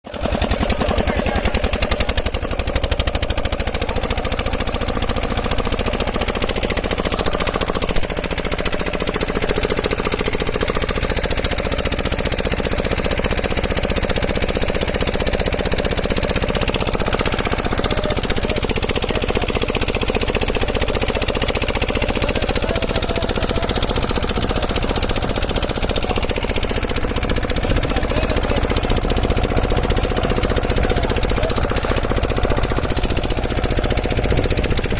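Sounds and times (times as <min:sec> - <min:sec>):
engine chugging: 0:00.0 - 0:34.9.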